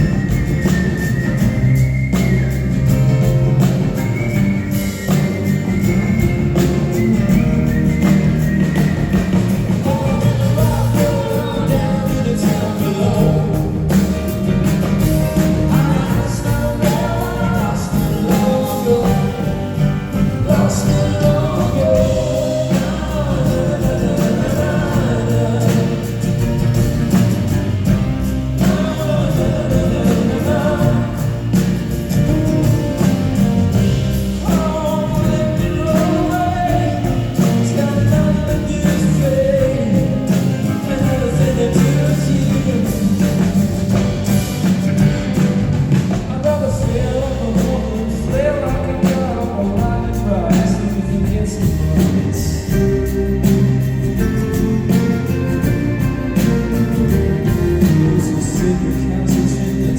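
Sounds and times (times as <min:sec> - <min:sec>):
band music with singing: 0:00.0 - 0:59.9.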